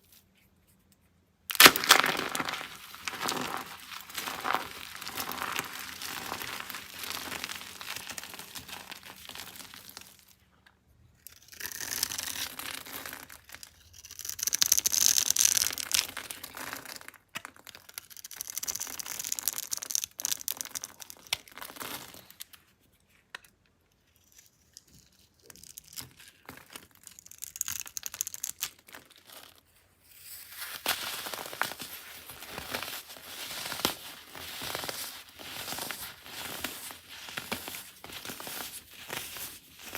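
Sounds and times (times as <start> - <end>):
soap crackling and crumbling: 0.0 - 39.9.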